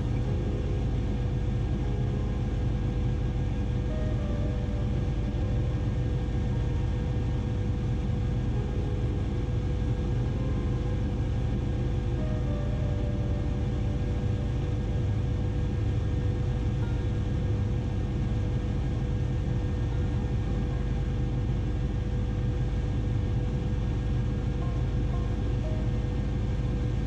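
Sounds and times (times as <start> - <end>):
helicopter rotor and turbine noise: 0.0 - 27.0.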